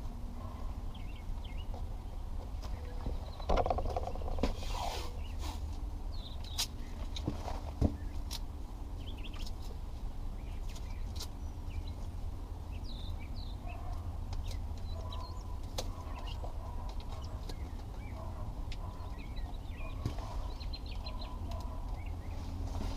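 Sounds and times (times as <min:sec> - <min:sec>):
birds chirping: 0:00.3 - 0:22.9.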